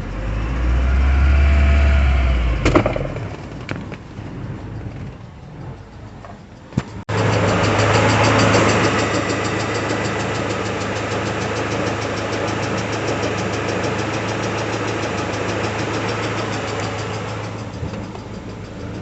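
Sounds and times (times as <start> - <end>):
car engine idling: 0.0 - 19.0
valvetrain ticking: 1.9 - 19.0.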